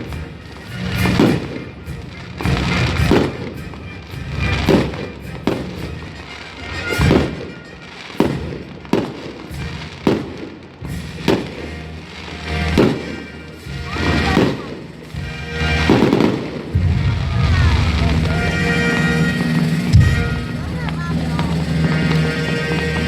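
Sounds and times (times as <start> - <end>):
band music playing: 0.0 - 23.0
fireworks banging: 0.0 - 23.0.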